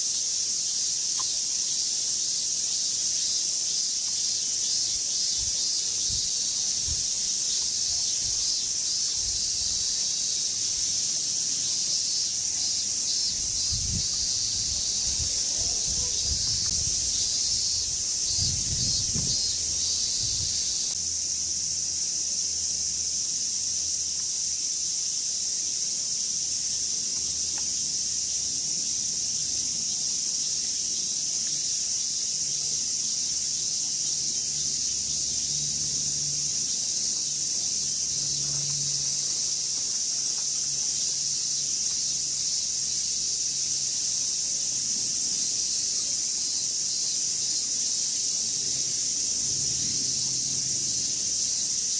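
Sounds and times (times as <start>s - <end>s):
cicadas buzzing: 0.0s - 51.9s.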